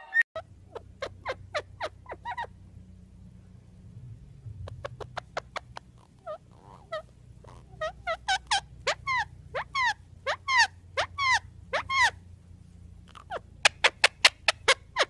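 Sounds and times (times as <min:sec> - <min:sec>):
parrot chirping: 0:00.0 - 0:02.5, 0:04.6 - 0:12.3, 0:13.0 - 0:15.0
faint low hum: 0:00.0 - 0:15.0.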